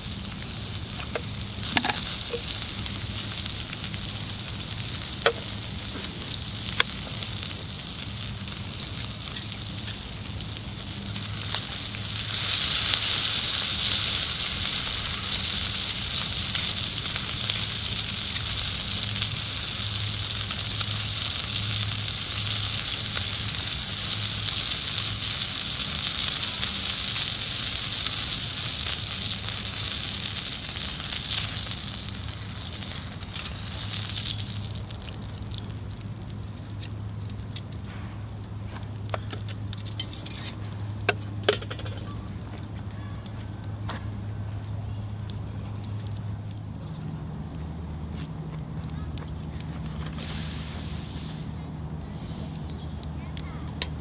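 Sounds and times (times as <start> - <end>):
chicken sizzling on griddle: 0.0 - 42.3, 50.0 - 52.6.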